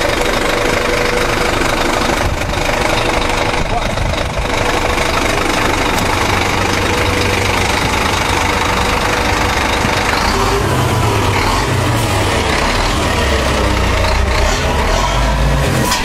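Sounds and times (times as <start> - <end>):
deep low rumble: 0.0 - 14.8
pickup engine and tyre noise: 0.0 - 16.0.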